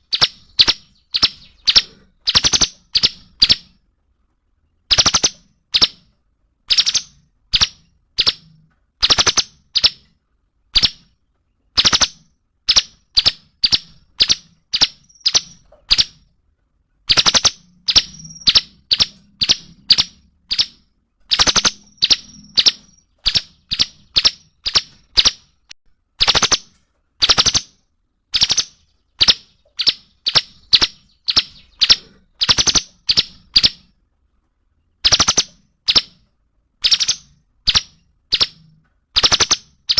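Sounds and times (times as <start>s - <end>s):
songbird calling sharp notes: 0.0s - 3.8s, 4.8s - 16.3s, 17.1s - 34.0s, 35.0s - 39.9s.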